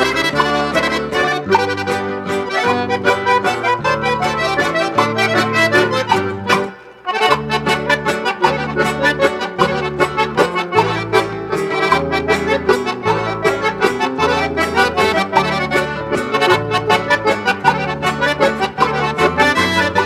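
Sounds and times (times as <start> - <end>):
accordion melody: 0.0 - 20.0
bass line: 0.0 - 20.0.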